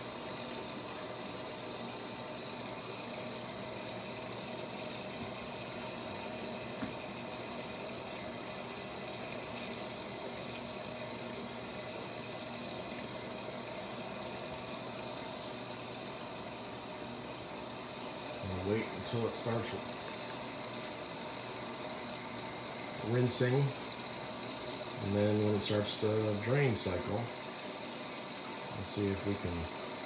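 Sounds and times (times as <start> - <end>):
washing machine running: 0.0 - 30.0.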